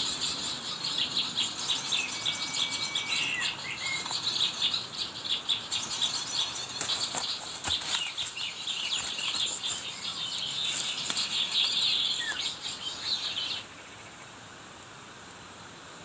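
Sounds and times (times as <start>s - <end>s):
songbirds twittering: 0.0s - 14.4s.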